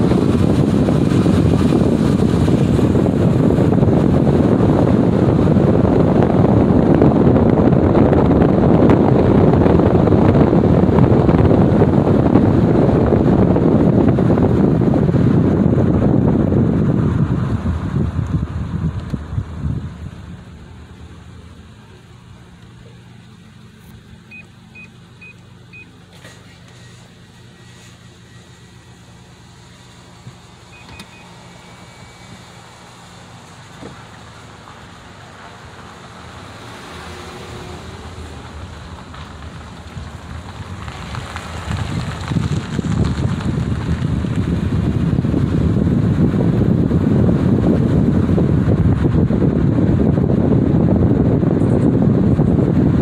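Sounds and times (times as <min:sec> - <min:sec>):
rushing wind noise: 0:00.0 - 0:22.5, 0:27.9 - 0:53.0
car engine and road noise: 0:00.0 - 0:53.0.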